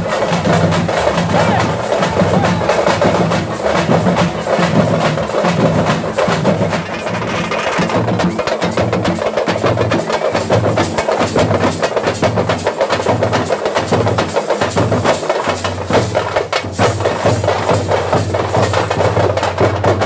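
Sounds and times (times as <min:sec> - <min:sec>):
drums played fast and hard: 0:00.0 - 0:20.0.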